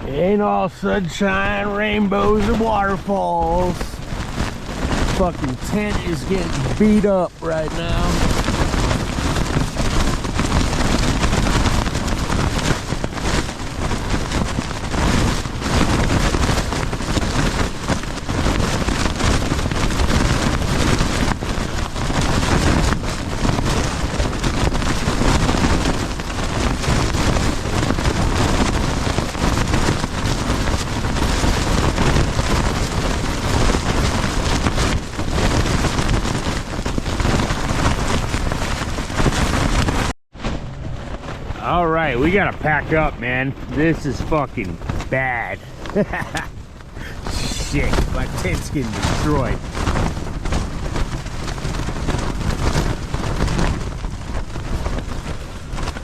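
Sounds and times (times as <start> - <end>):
tent fabric flapping in wind: 0.0 - 56.0
wind rumble on microphone: 0.0 - 56.0.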